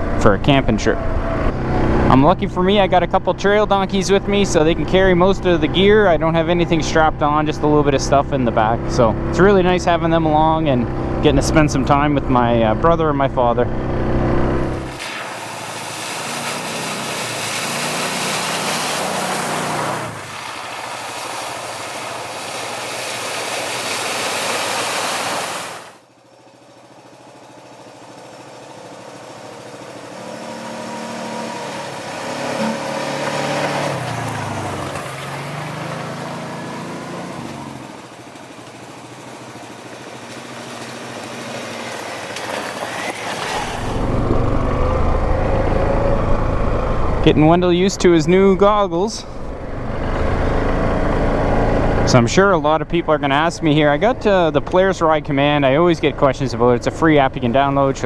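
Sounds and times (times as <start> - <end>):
all-terrain vehicle engines running: 0.0 - 58.0.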